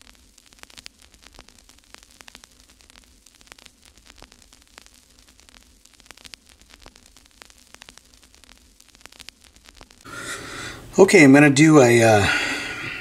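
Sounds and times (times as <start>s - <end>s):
crackling static: 0.0s - 13.0s
low hiss: 0.0s - 13.0s.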